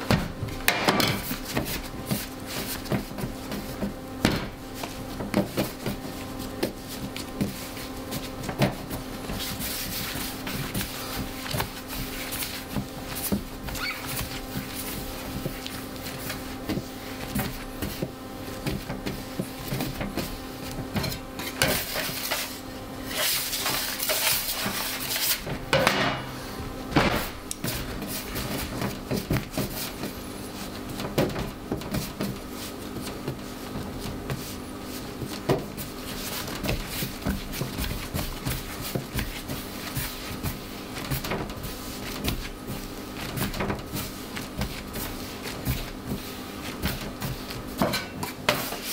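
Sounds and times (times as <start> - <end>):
dough slapping on steel bench: 0.0 - 48.9.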